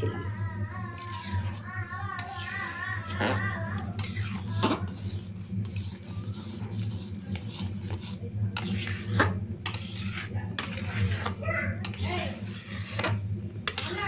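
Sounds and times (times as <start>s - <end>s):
spoon scraping in a pot: 0.0s - 14.0s.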